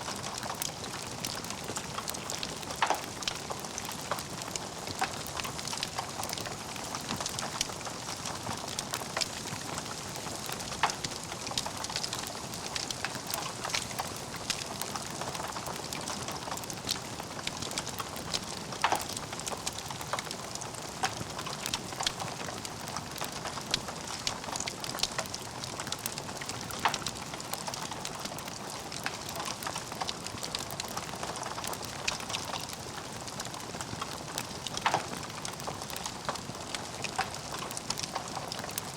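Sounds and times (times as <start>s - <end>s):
logs crackling in a fireplace: 0.0s - 38.9s.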